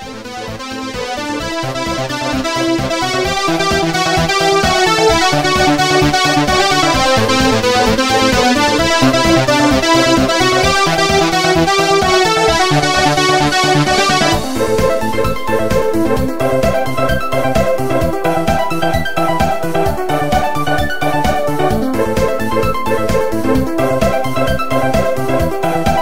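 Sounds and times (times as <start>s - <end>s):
electronic music with keyboard: 0.0s - 26.0s.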